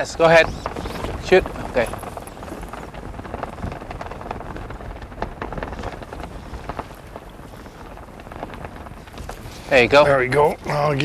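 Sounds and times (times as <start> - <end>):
small irregular crackles: 0.0 - 11.0
water slapping boat hull: 0.0 - 11.0
wind rushing over microphone: 0.0 - 11.0.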